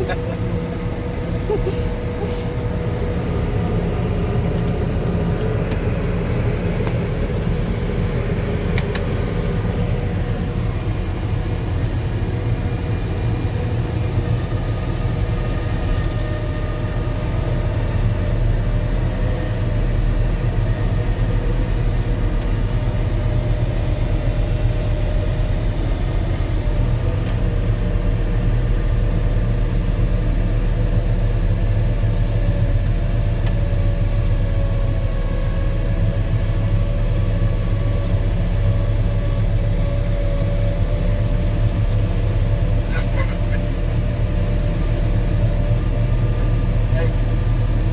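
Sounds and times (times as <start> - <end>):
diesel engine drone: 0.0 - 47.9.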